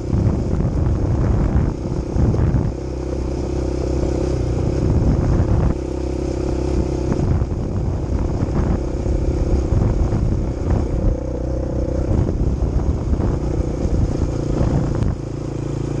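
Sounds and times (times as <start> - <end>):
quad bike engine running: 0.0 - 16.0.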